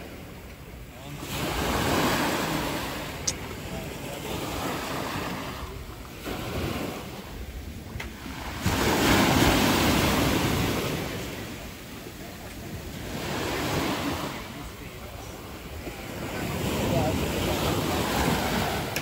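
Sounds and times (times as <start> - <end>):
sea surf washing on beach: 0.0 - 19.0.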